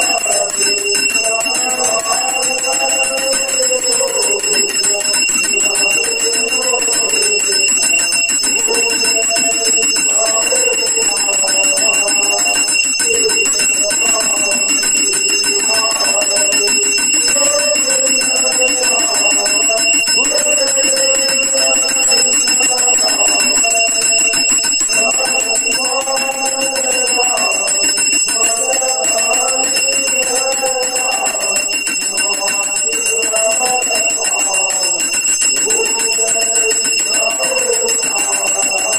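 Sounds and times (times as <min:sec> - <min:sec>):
hand bell ringing: 0:00.0 - 0:38.9
man singing a hymn: 0:00.0 - 0:38.9.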